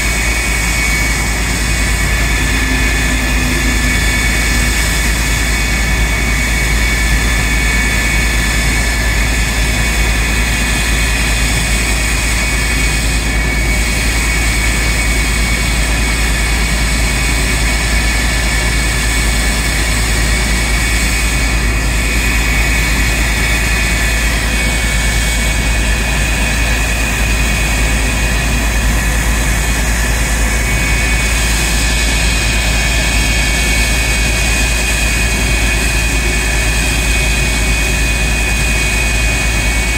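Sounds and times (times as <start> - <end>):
jet engine running with high whine: 0.0 - 39.9.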